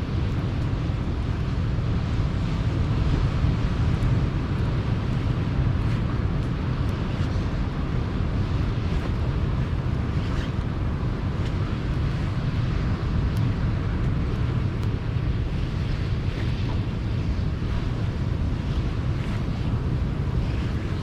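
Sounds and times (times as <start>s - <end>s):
sea waves on shore: 0.0s - 21.0s
wind on microphone: 0.0s - 21.0s.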